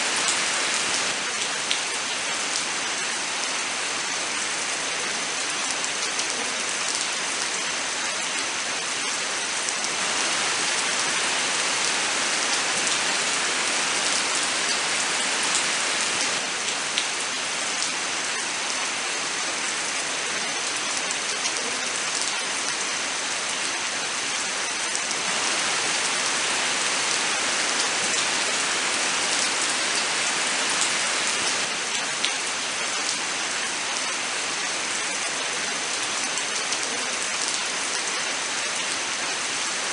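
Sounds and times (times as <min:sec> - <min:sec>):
sharp raindrops: 0:00.0 - 0:39.9
steady rain: 0:00.0 - 0:39.9.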